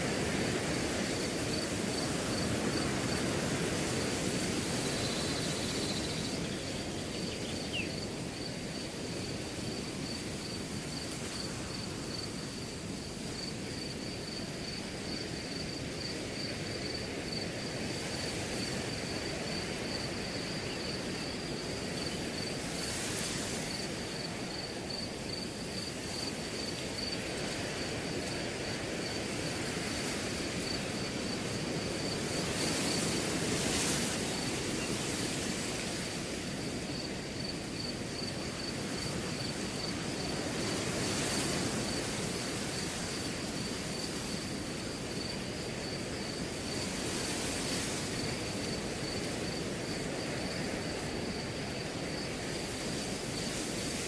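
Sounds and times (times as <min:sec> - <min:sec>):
crickets chirping: 0:00.0 - 0:54.0
wind through grass: 0:00.0 - 0:54.0.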